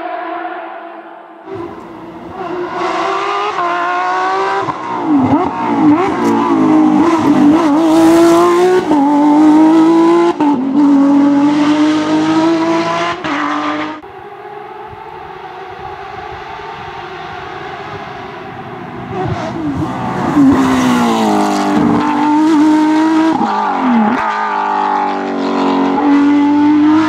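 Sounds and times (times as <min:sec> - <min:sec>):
rally car engine accelerating: 0:01.5 - 0:27.0.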